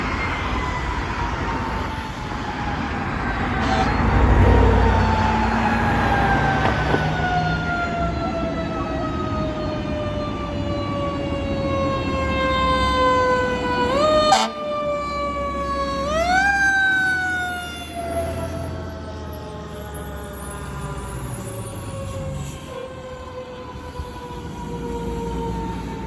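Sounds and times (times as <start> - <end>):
fire truck siren: 0.0 - 26.0.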